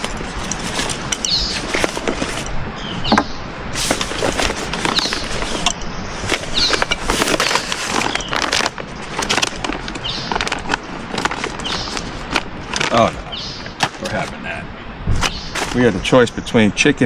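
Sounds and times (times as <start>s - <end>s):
clicks and knocks of gear: 0.0s - 2.5s, 3.1s - 14.4s, 15.2s - 15.9s
food pouches rustling and crinkling: 0.0s - 2.5s, 3.1s - 16.2s.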